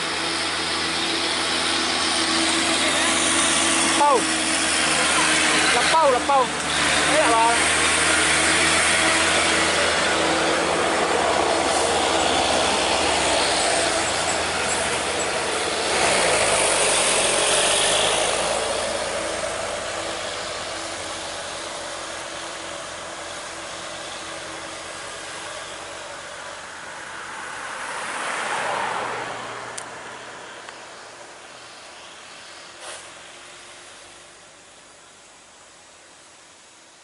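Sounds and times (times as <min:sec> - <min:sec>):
diesel truck engines labouring: 0:00.0 - 0:36.7
traffic noise: 0:00.0 - 0:37.0.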